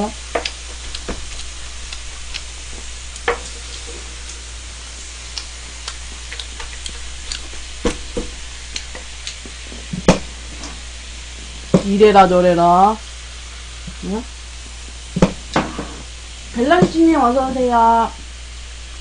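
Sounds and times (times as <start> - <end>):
food sizzling on a grill pan: 0.0 - 19.0.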